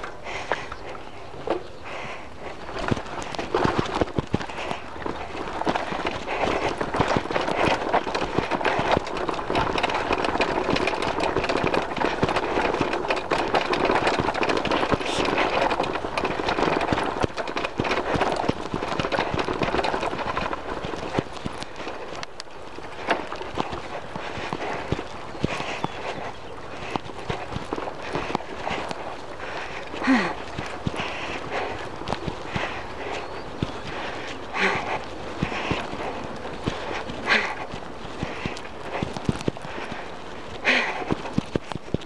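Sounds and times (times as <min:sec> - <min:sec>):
bike rattling over bumps: 0:00.0 - 0:42.0
constant rushing noise: 0:00.0 - 0:42.0.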